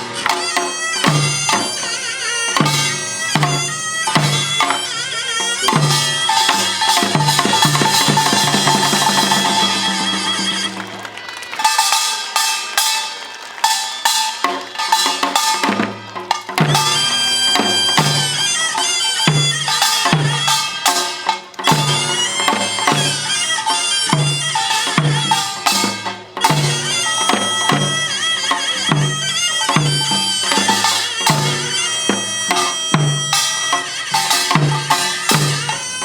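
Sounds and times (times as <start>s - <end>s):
drums and gongs beating: 0.0s - 36.0s
wavering shawm melody: 0.0s - 36.0s.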